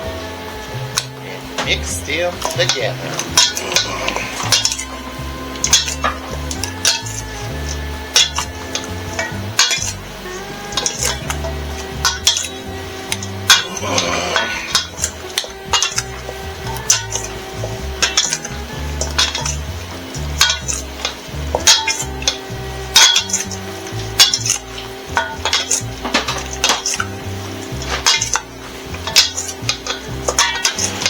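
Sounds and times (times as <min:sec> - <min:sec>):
utensil clinking against bowl: 0:01.0 - 0:31.0.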